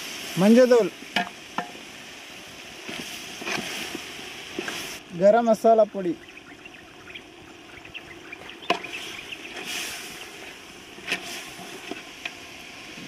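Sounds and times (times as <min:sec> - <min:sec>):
curry hissing in pot: 0:00.0 - 0:13.0.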